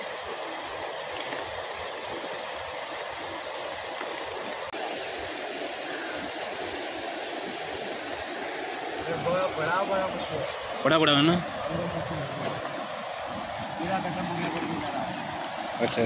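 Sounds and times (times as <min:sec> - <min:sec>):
rushing water roar: 0:00.0 - 0:16.0.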